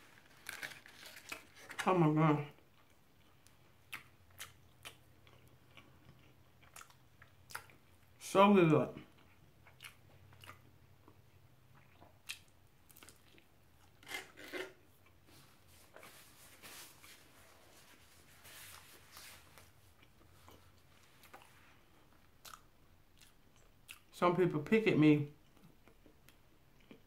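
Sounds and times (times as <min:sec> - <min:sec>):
soft chewing and mouth noises: 0:00.0 - 0:08.2, 0:08.9 - 0:24.2, 0:25.3 - 0:27.0.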